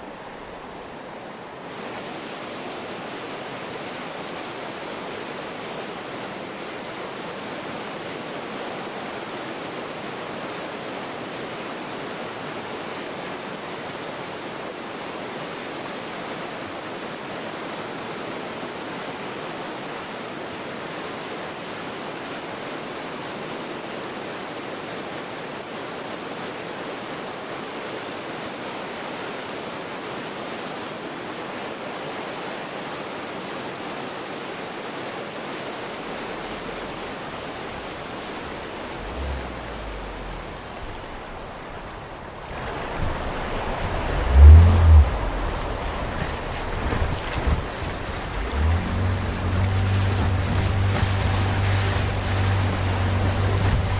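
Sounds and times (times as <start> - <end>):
river rapids rushing: 0.0 - 53.9.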